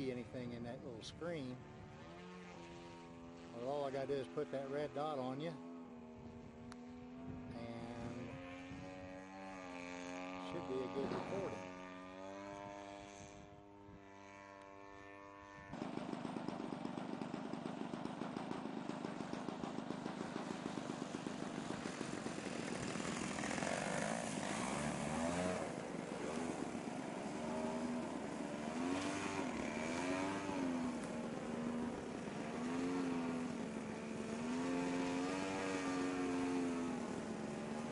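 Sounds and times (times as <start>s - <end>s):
model plane engine droning: 0.0s - 37.9s.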